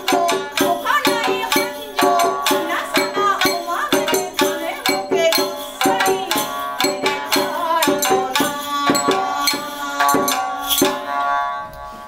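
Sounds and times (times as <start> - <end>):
woman singing: 0.0 - 10.6.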